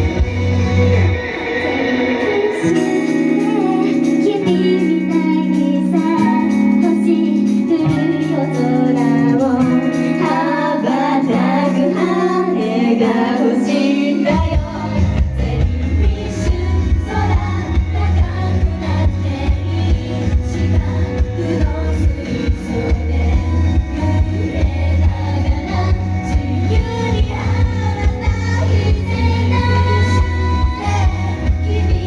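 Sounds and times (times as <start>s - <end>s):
bass: 0.0s - 32.0s
drums: 0.0s - 32.0s
women singing pop song: 0.0s - 32.0s.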